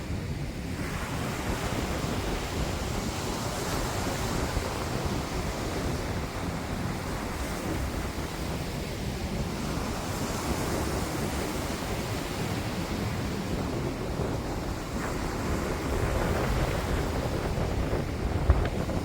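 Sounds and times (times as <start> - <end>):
sea waves washing in: 0.0 - 19.0
wind buffeting microphone: 0.0 - 19.0.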